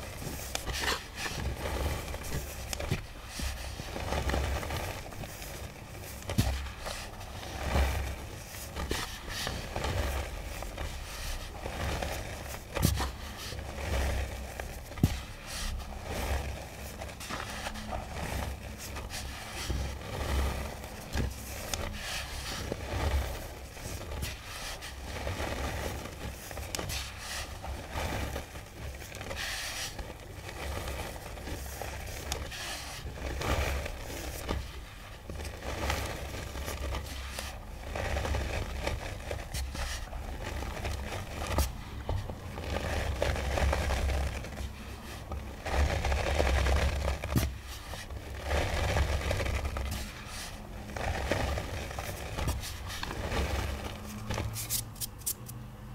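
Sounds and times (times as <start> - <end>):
powder scraping and crackling by hand: 0.0 - 55.9.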